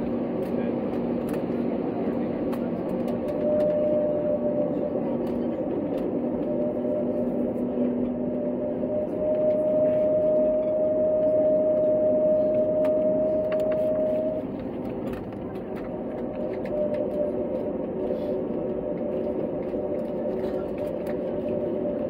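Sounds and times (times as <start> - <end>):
aircraft engine hum: 0.0 - 22.0
engine whine: 0.0 - 22.0.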